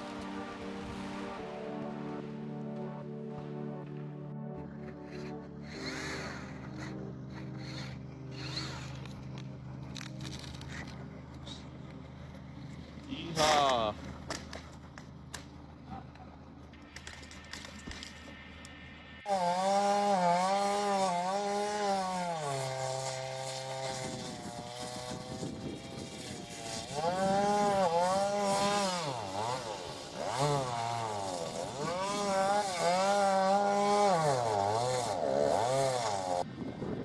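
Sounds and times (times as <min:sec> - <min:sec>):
chainsaw cutting wood: 0:04.6 - 0:36.5.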